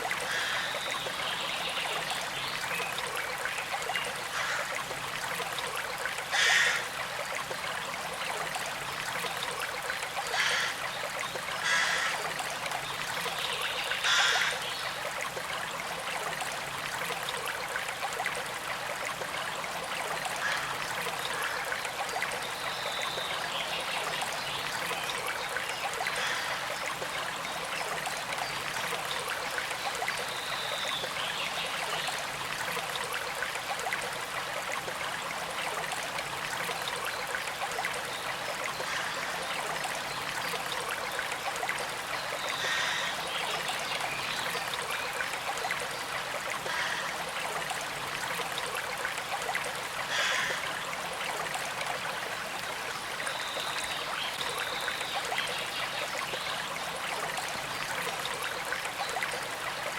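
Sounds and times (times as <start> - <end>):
creek trickling over stones: 0.0 - 59.9.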